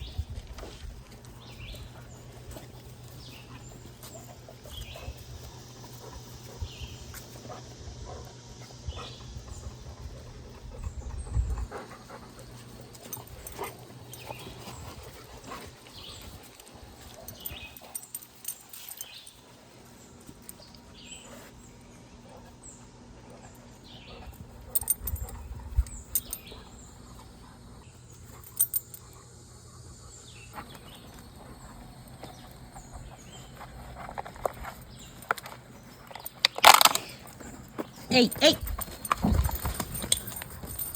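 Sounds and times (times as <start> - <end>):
rustles: 0.0 - 29.1, 30.5 - 40.9.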